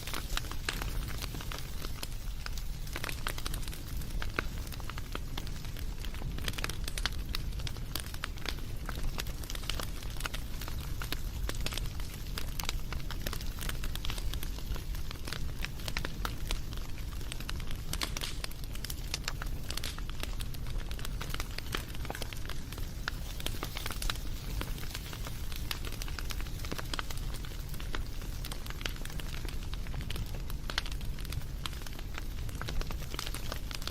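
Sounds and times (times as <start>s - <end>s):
low rumble of flames: 0.0s - 33.9s
wood fire crackling and popping: 0.0s - 33.9s.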